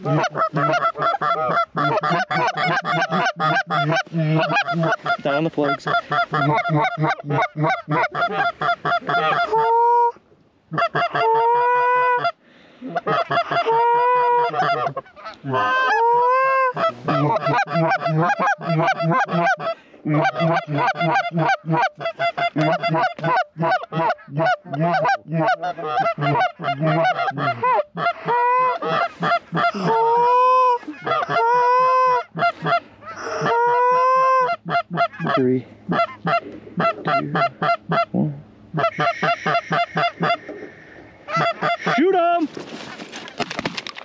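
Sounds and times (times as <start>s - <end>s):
rising drawn goose call notes: 0.0s - 12.4s, 13.0s - 38.1s, 38.7s - 42.2s
goose call clucks and honks: 0.0s - 40.7s, 41.3s - 43.0s.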